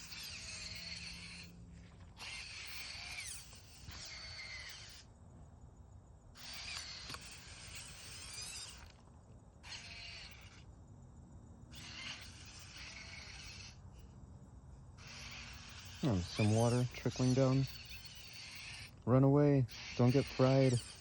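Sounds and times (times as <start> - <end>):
robot leg motors whining: 0.0 - 5.1, 6.3 - 9.0, 9.6 - 10.7, 11.7 - 14.1, 15.0 - 21.0.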